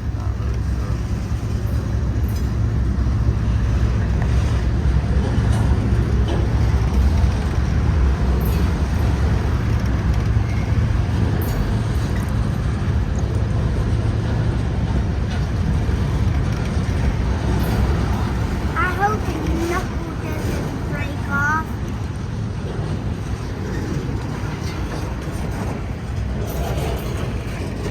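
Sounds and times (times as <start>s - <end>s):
freight train cars rolling: 0.0s - 27.9s.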